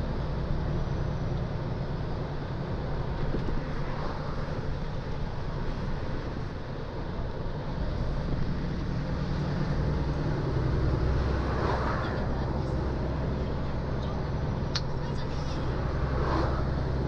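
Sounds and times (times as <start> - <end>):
road and tyre noise: 0.0 - 17.0
truck diesel engine: 0.0 - 17.0.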